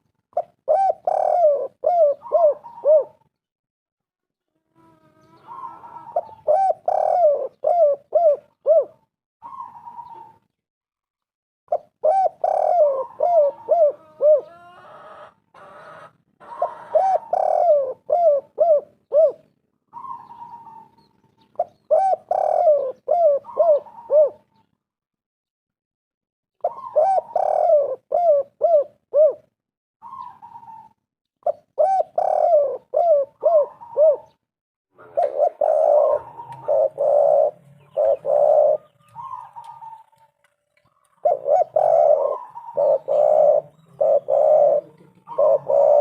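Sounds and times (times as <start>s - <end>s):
dove cooing: 0.0s - 3.4s, 4.5s - 10.6s, 11.7s - 24.7s, 26.6s - 34.4s, 35.0s - 46.0s.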